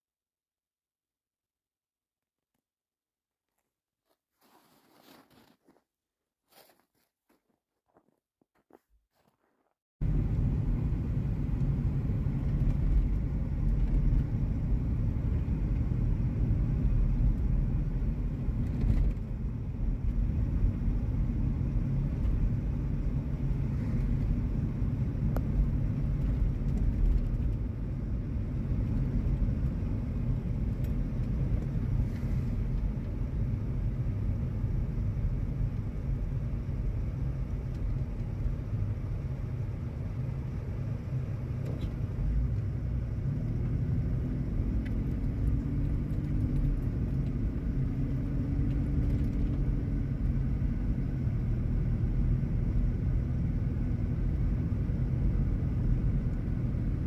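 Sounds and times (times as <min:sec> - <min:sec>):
car driving on wet road: 0:10.1 - 0:57.0.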